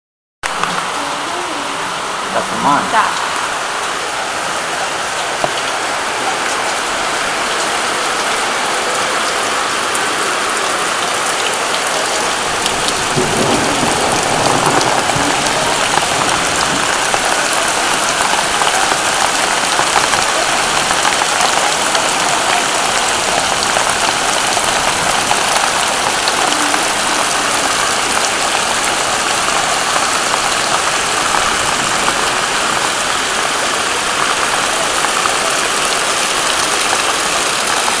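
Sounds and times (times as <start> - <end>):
heavy rain falling: 0.4 - 38.0.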